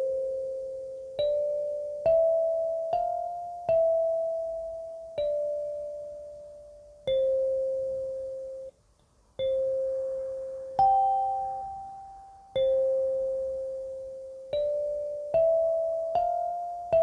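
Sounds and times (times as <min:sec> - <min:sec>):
kalimba notes plucked: 0:00.0 - 0:08.7, 0:09.4 - 0:17.0.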